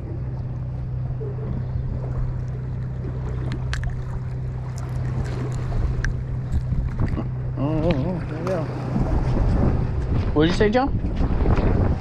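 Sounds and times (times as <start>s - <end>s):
boat engine humming: 0.0s - 12.0s
water noise: 0.0s - 12.0s
wind: 0.0s - 12.0s.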